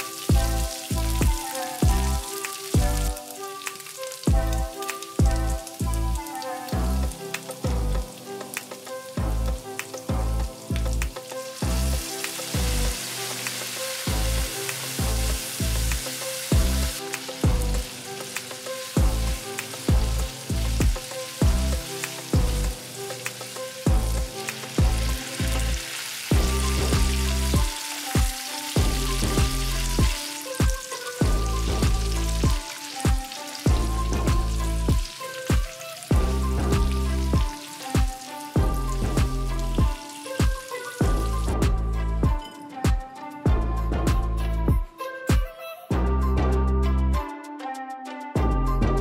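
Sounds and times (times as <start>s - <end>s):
food sizzling in hot oil: 0.0s - 42.6s
background music with bass beat: 0.0s - 49.0s.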